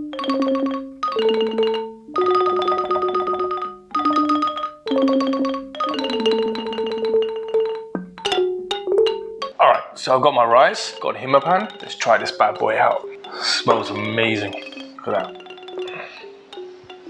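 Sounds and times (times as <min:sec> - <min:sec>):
bouncy marimba tune: 0:00.0 - 0:09.6, 0:10.5 - 0:17.0.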